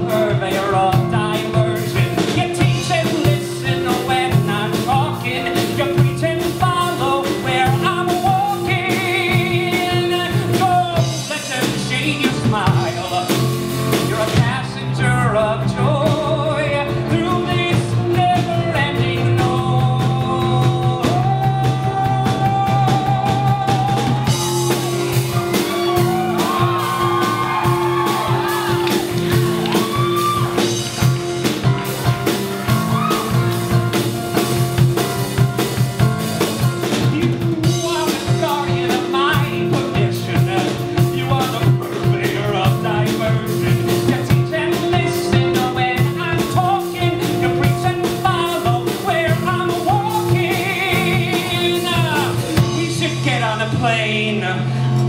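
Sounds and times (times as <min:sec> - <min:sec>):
band playing pop-rock song: 0:00.0 - 0:55.0.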